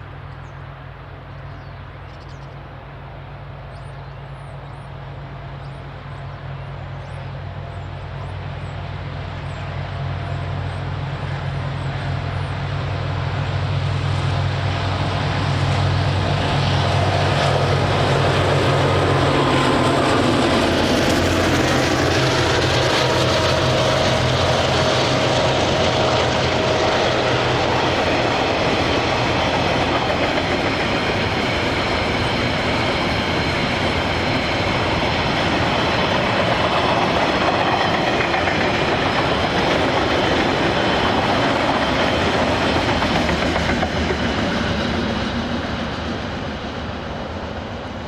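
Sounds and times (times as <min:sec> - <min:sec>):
locomotive engine drone: 0:00.0 - 0:48.0.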